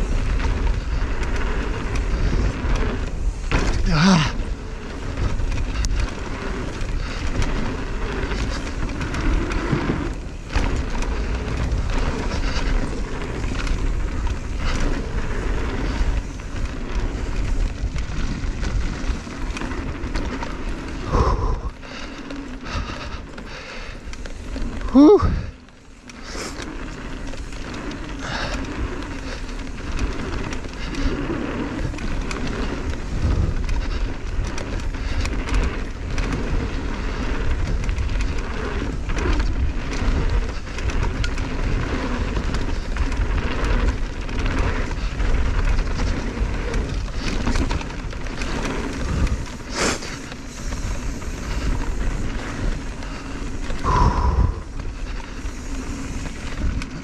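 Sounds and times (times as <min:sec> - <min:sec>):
bike clattering over roots: 0:00.0 - 0:57.0
bike tyre noise: 0:00.0 - 0:57.0
wind buffeting camera: 0:00.0 - 0:57.0.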